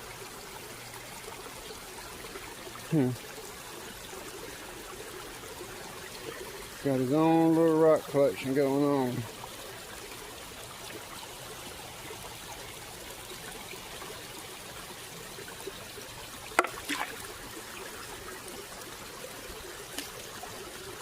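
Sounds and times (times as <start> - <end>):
water trickling over rocks: 0.0 - 21.0.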